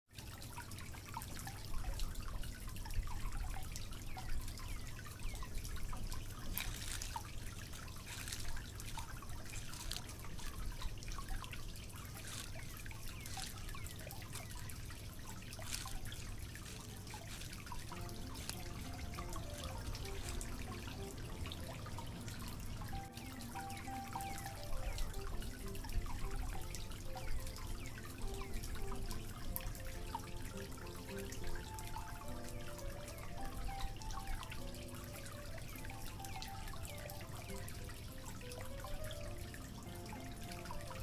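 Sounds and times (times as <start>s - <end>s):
stream flowing and trickling: 0.1s - 41.0s
water gurgles: 0.1s - 41.0s
water splashes: 0.1s - 41.0s.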